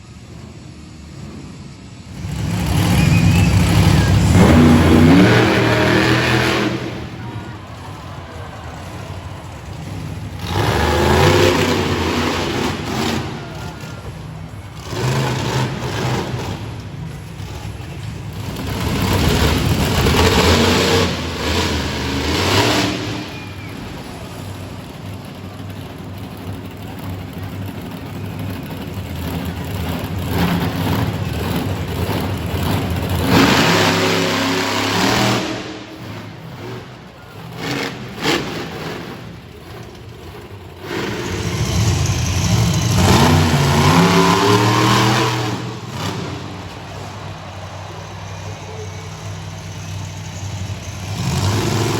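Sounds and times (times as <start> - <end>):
low engine rumble: 0.0 - 51.9
monster truck engines revving: 0.0 - 51.9.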